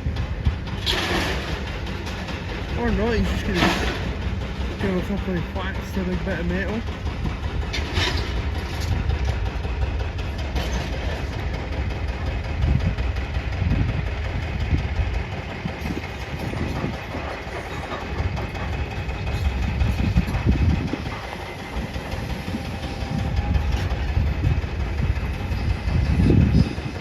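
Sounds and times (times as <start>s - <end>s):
diesel engine working under load: 0.0s - 27.0s.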